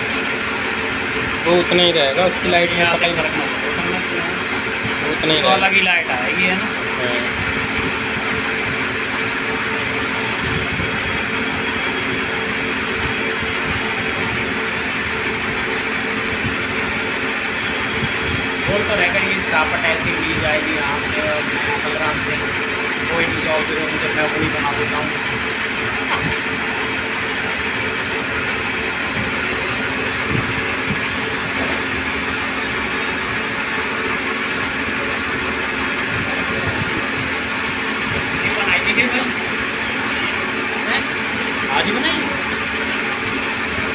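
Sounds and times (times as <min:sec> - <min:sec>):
lathe machine whirring: 0:00.0 - 0:43.9.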